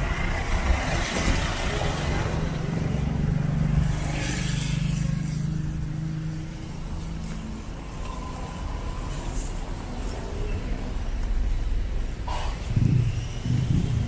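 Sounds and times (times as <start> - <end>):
vehicles passing close by: 0.0 - 14.0.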